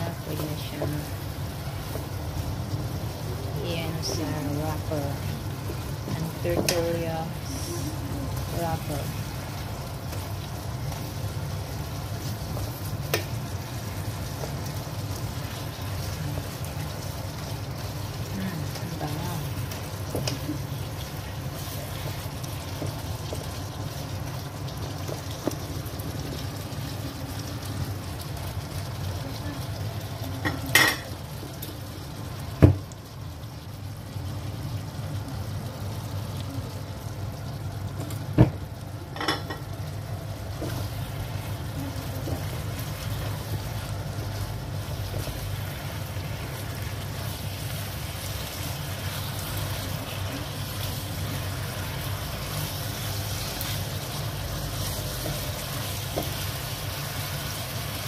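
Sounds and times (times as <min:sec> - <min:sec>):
chicken sizzling in a wok: 0:00.0 - 0:58.0.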